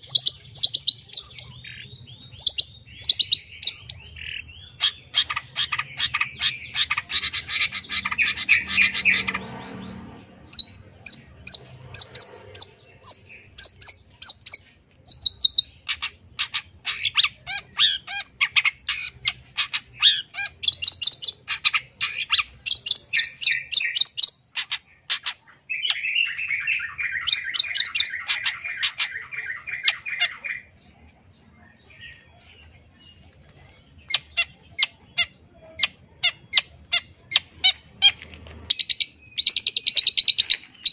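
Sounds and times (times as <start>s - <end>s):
bird scratchy chatter: 3.6s - 30.7s, 31.9s - 40.9s.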